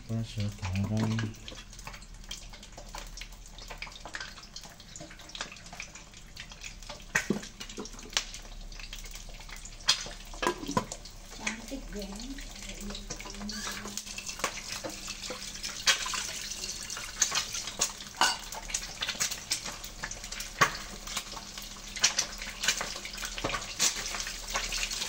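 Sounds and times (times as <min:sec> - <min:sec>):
food sizzling in hot oil: 0:00.0 - 0:25.0
oil popping and crackling: 0:00.0 - 0:25.0.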